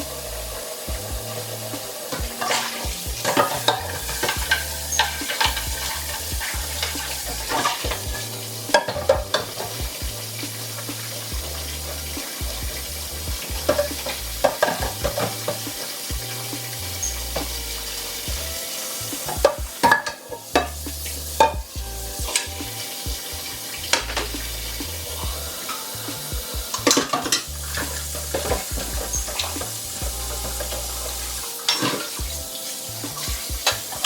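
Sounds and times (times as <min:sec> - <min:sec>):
steady hiss: 0:00.0 - 0:34.0
kitchen items clinking and clattering: 0:00.6 - 0:22.6, 0:23.5 - 0:34.0.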